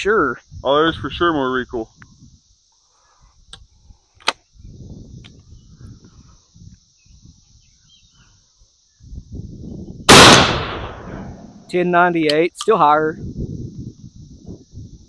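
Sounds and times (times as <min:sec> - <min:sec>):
high-pitched insect drone: 0:00.0 - 0:10.1, 0:10.7 - 0:15.0.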